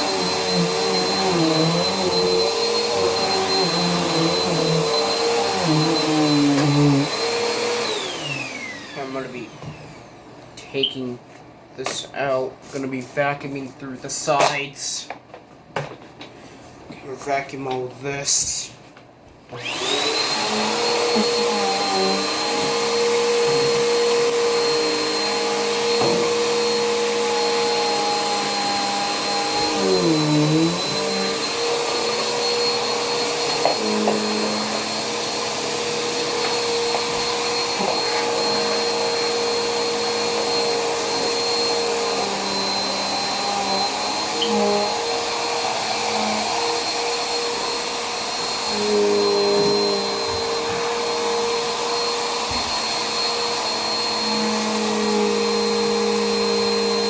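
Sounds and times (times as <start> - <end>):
vacuum cleaner motor whining: 0.0 - 10.2, 19.5 - 57.0.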